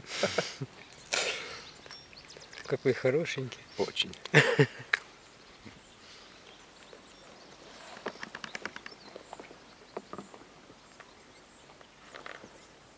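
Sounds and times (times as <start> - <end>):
river ambience: 0.0 - 12.9.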